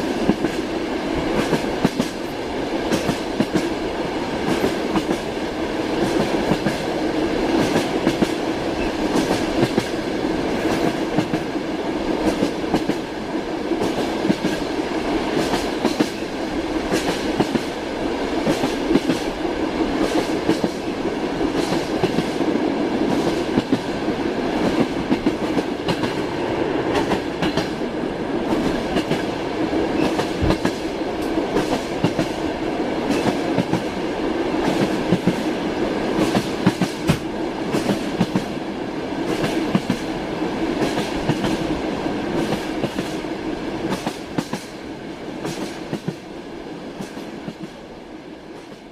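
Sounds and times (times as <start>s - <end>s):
train wheels clattering over rails: 0.0s - 38.6s, 39.2s - 44.8s, 45.4s - 46.3s.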